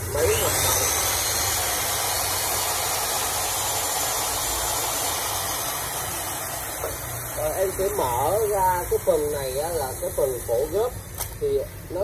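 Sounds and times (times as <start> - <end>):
cut-off saw whirring: 0.0 - 11.5.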